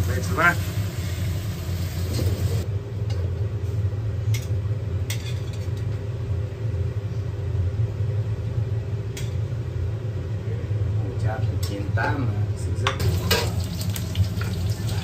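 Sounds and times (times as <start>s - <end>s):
range hood fan rumbling: 0.0s - 15.0s.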